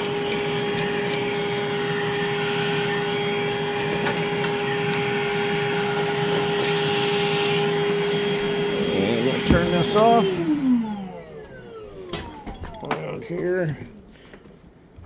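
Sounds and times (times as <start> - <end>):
vacuum motor whine: 0.0 - 14.5.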